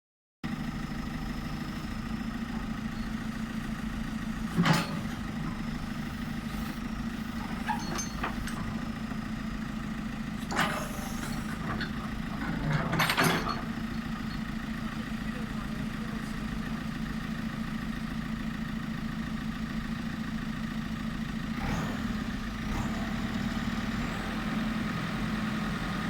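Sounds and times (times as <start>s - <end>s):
diesel engine idling: 0.5s - 26.0s.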